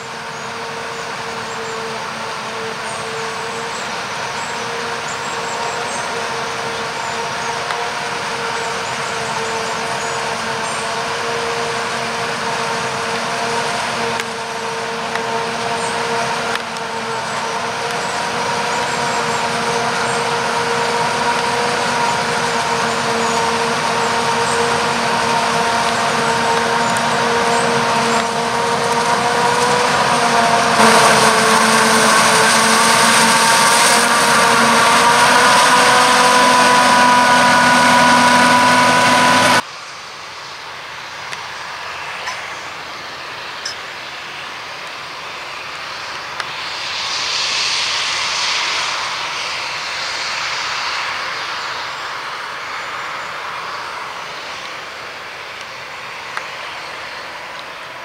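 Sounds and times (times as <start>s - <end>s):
distant machinery noise: 0.0s - 58.0s
forage harvester whine: 0.0s - 58.0s.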